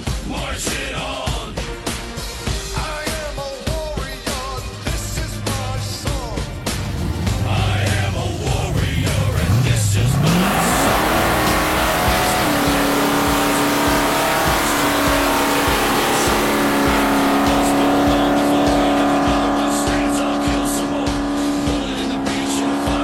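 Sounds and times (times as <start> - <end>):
car engine revving: 4.6 - 23.0.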